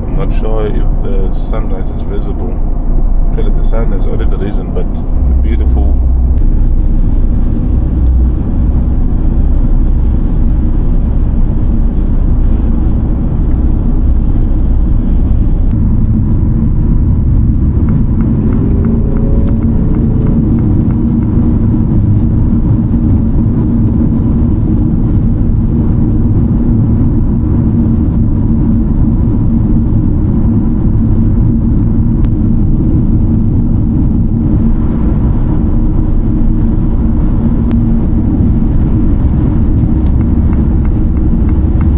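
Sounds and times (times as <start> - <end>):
car engine and tyre noise: 0.0 - 41.9
low hum: 0.0 - 41.9.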